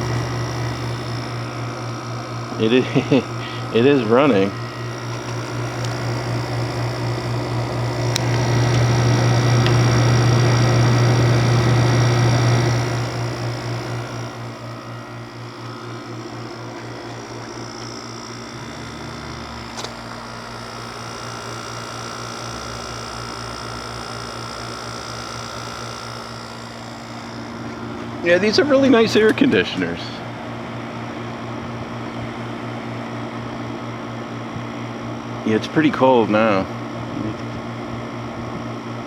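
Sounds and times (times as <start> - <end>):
window air conditioner humming: 0.0 - 39.0.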